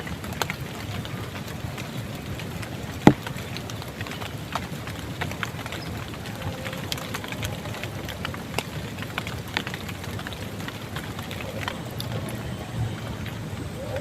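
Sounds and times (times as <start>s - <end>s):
rain drops tapping: 0.0s - 14.0s.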